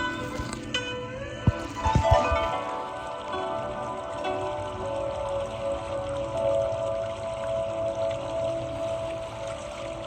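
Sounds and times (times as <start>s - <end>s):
calm background music: 0.0s - 10.0s.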